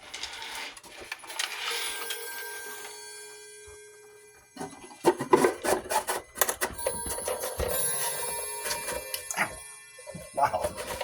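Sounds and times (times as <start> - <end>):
wall clock chime rods ringing: 1.3 - 11.0.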